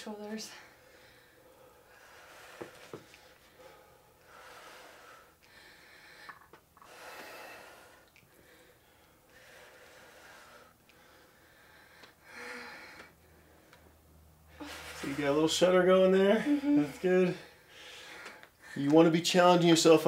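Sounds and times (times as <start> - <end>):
person breathing with exertion: 0.7 - 15.3, 16.2 - 18.8.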